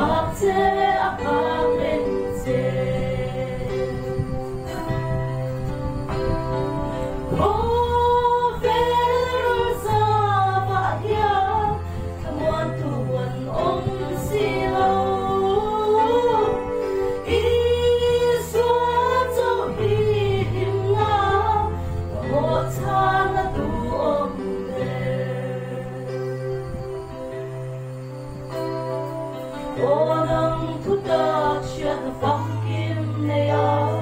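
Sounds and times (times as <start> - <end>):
female trio singing gospel: 0.0 - 5.1, 6.9 - 26.8, 29.5 - 34.0
instrumental accompaniment: 0.0 - 34.0.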